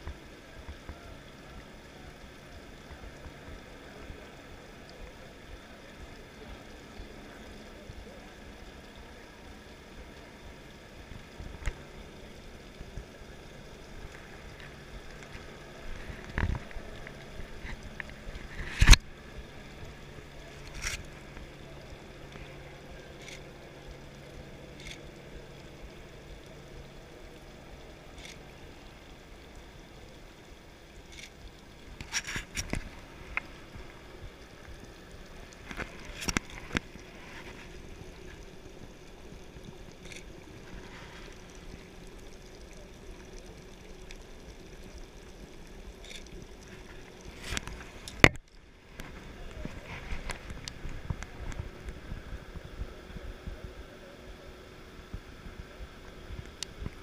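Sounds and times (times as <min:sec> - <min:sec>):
steady background noise: 0:00.0 - 0:57.0.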